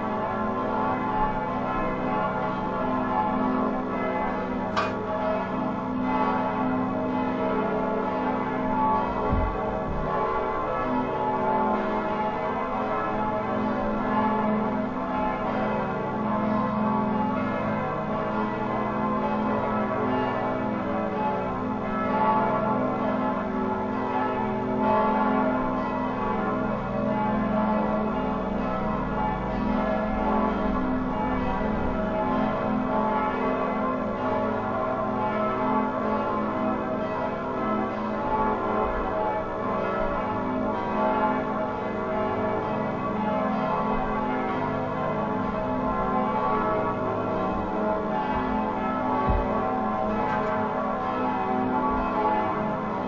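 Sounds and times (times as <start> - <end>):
church bells pealing: 0.0 - 53.0.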